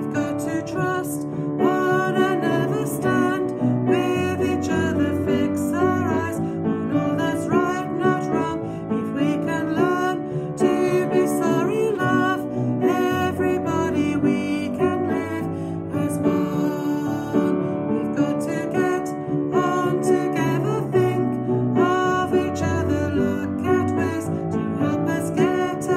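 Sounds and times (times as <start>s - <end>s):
piano accompaniment: 0.0s - 25.9s
woman singing: 0.0s - 25.9s.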